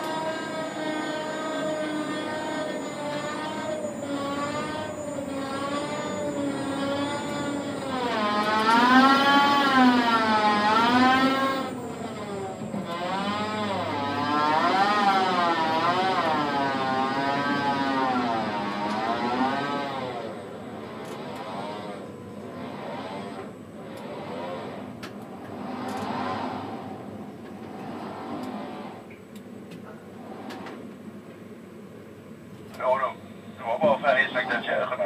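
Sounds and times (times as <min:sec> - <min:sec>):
crane motor whining: 0:00.0 - 0:33.1.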